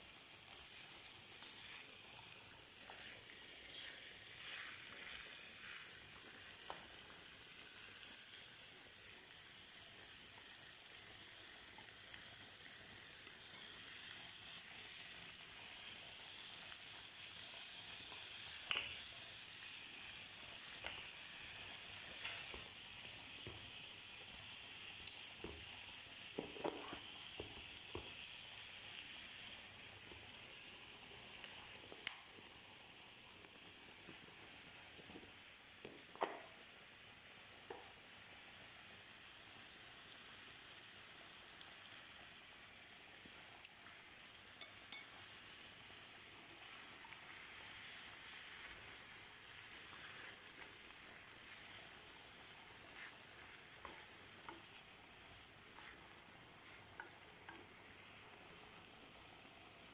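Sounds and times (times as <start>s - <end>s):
food sizzling in skillet: 0.0s - 59.9s.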